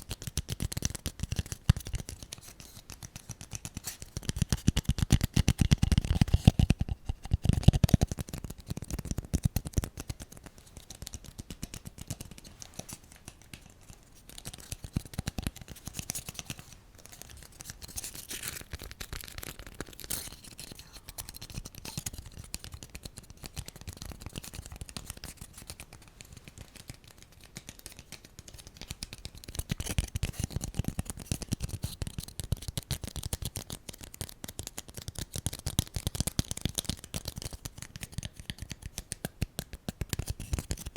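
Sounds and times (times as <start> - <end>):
scratching and tapping on object: 0.0 - 40.9.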